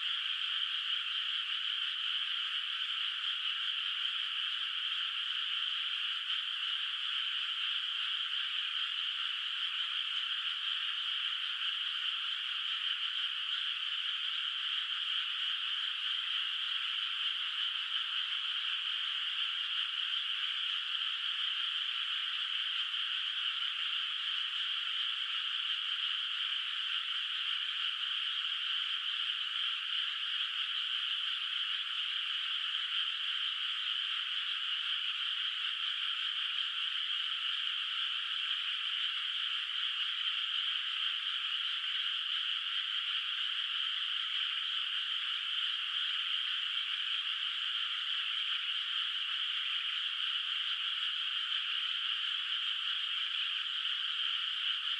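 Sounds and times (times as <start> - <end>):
chorus of frogs croaking: 0.0 - 54.9.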